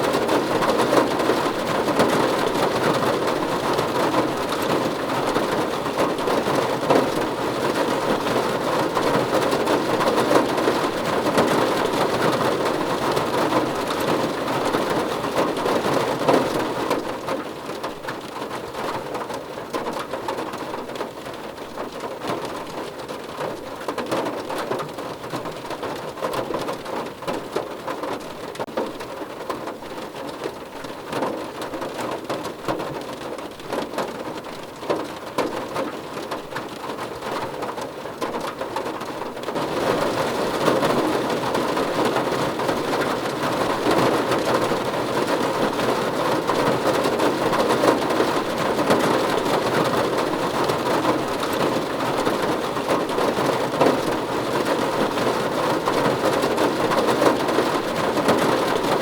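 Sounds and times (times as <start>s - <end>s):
rain drumming on a car roof: 0.0s - 59.0s.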